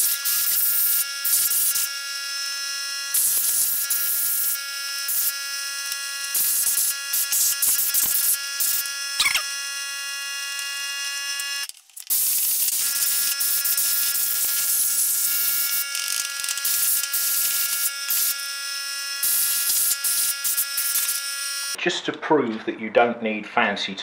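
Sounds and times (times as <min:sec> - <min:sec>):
steady buzzing whine: 0:00.0 - 0:21.8.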